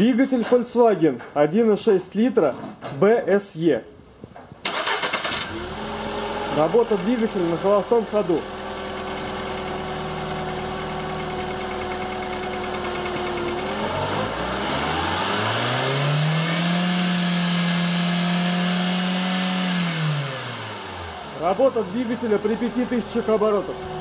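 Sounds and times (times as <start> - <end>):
car engine idling and revving: 4.7 - 24.0.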